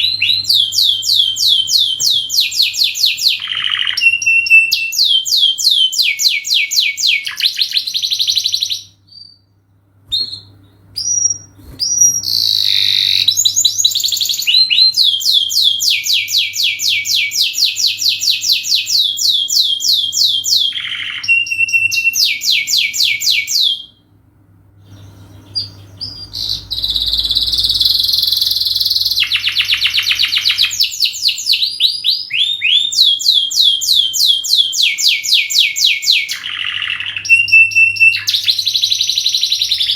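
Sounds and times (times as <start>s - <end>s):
canary singing trills: 0.0s - 9.5s, 10.1s - 24.0s, 24.9s - 39.9s
faint low hum: 0.0s - 35.0s.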